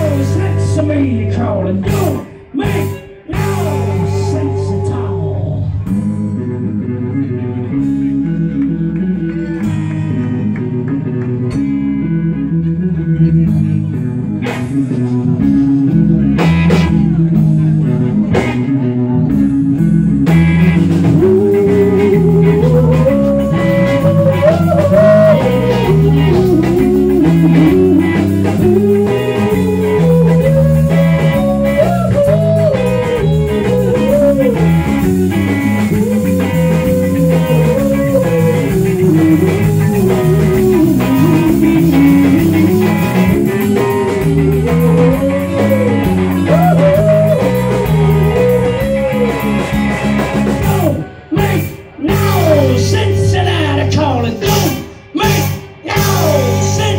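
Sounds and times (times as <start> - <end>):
bending electric guitar lead: 0.0 - 56.9
blues-rock band playing: 0.0 - 56.9.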